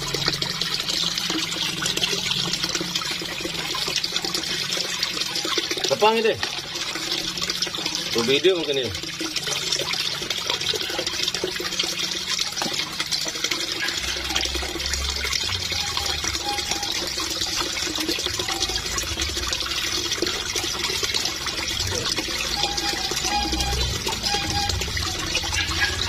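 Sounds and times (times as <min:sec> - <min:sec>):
fish splashing in pond water: 0:00.0 - 0:26.0.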